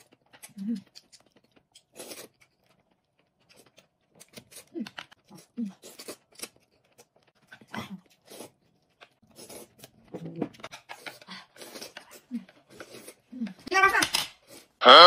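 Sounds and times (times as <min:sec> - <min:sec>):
person slurping and chewing: 0:00.0 - 0:13.6.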